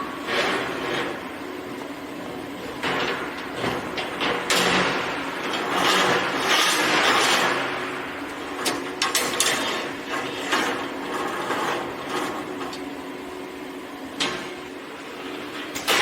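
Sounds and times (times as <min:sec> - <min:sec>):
welding machine hum: 0:00.0 - 0:16.0.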